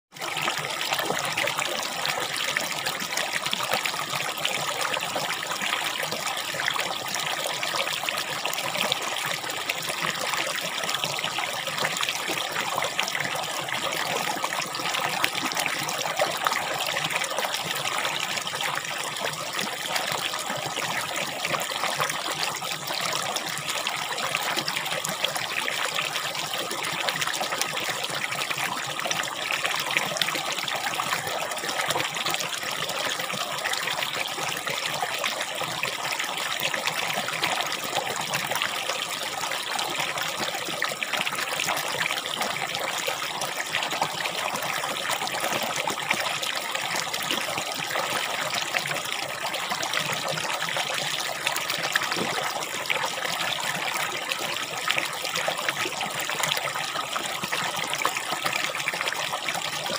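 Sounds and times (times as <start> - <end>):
stream trickling over rocks: 0.1 - 59.9.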